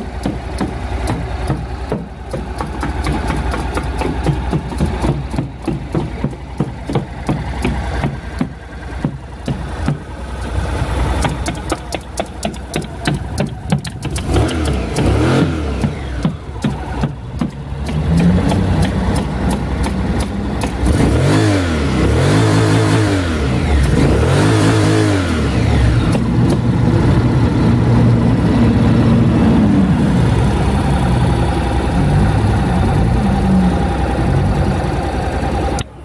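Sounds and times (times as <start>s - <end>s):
motorcycle engine revving and idling: 0.0s - 36.0s.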